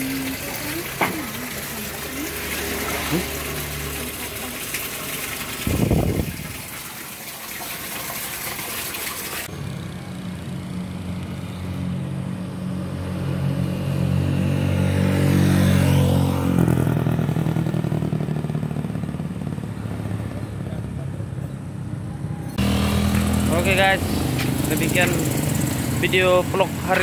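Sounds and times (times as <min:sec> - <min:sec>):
vehicle engine passing by: 0:00.0 - 0:06.2, 0:09.4 - 0:21.6, 0:22.2 - 0:27.0.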